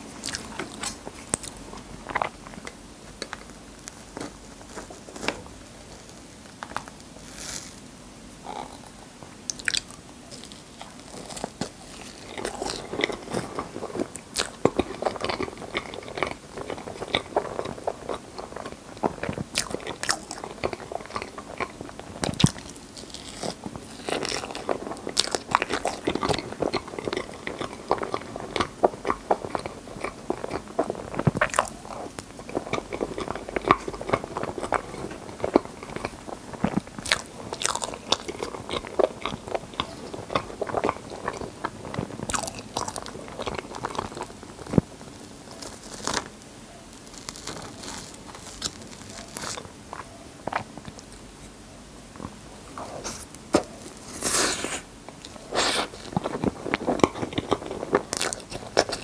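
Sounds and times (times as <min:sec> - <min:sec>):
person chewing and biting food: 0:00.0 - 0:07.8, 0:09.5 - 0:51.2, 0:52.2 - 0:59.0.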